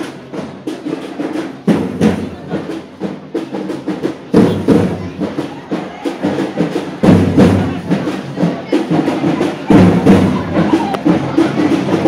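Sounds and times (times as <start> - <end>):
procession drums beating: 0.0 - 12.0.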